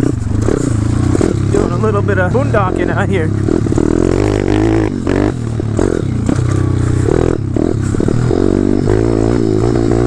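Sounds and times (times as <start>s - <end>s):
motorbike engine revving: 0.0s - 10.0s.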